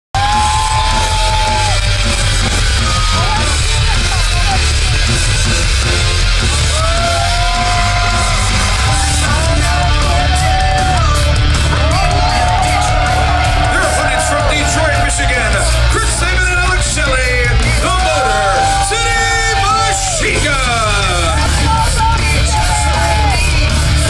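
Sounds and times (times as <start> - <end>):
loud rock music with yelled vocals: 0.2 - 24.0.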